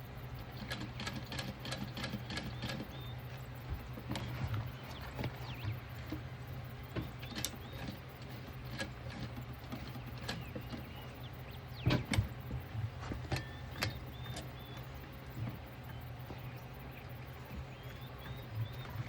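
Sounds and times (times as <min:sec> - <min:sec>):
steady low hum: 0:00.0 - 0:19.0
faint bird chirp: 0:02.0 - 0:19.0.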